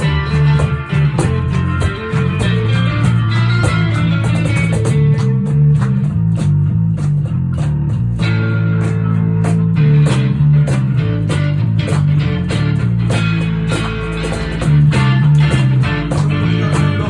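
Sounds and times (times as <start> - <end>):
strummed acoustic guitars: 0.0 - 6.2, 8.2 - 17.0
bass line: 0.0 - 17.0.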